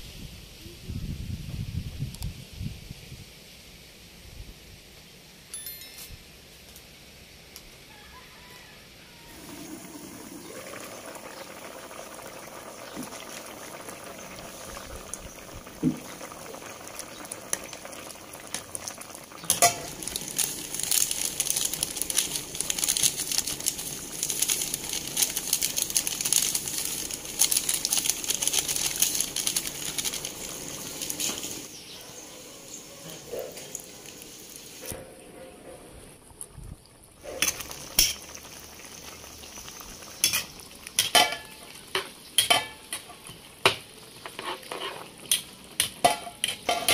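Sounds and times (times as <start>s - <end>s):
stew boiling and popping: 9.2s - 46.9s.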